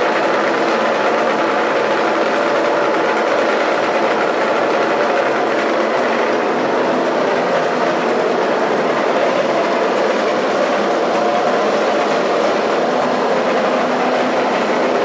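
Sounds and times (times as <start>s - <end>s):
loud mechanical running noise: 0.0s - 15.0s.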